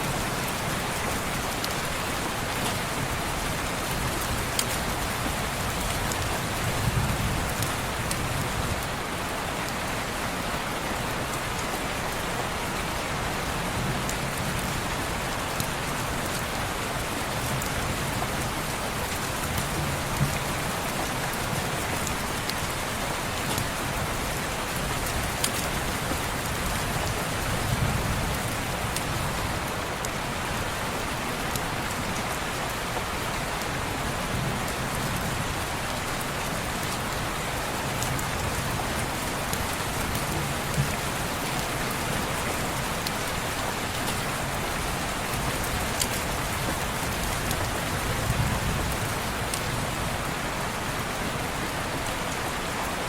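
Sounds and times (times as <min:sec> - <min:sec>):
rain on a window pane: 0:00.0 - 0:53.0.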